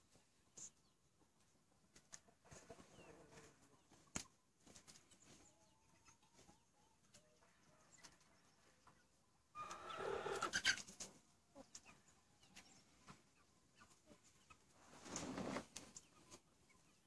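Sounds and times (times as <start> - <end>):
faint chicken clucks: 0.0 - 17.0.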